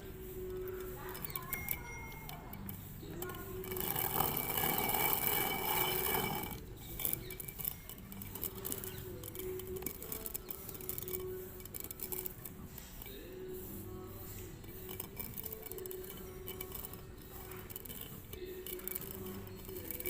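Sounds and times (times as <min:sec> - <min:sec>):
stone quern grinding grain: 0:00.0 - 0:20.0.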